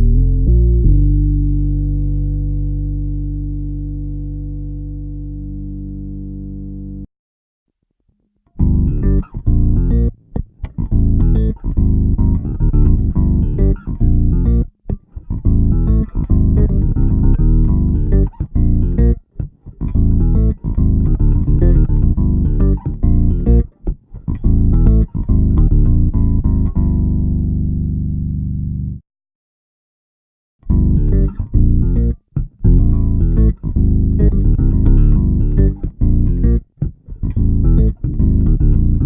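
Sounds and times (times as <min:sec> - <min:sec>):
electric bass guitar riff: 0:00.0 - 0:07.1, 0:08.6 - 0:29.0, 0:30.6 - 0:39.0.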